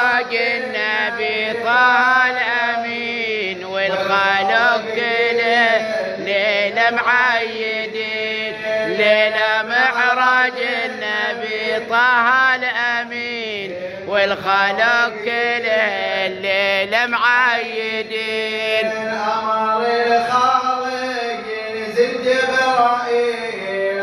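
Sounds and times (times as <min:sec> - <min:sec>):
person chanting melody: 0:00.0 - 0:24.0.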